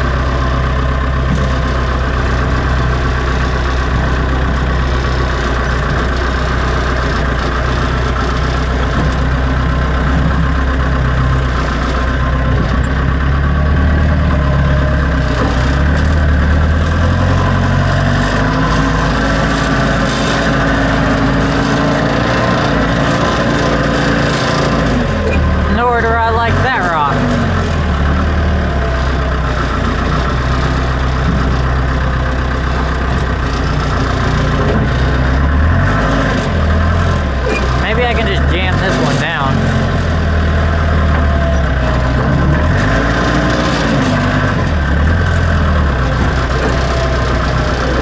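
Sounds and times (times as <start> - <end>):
backhoe engine running: 0.0 - 48.0.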